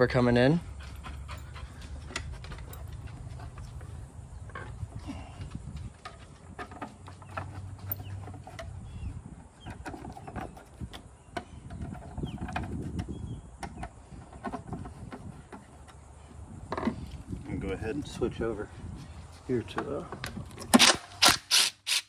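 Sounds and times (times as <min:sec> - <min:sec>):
handling noise: 0:00.8 - 0:21.3.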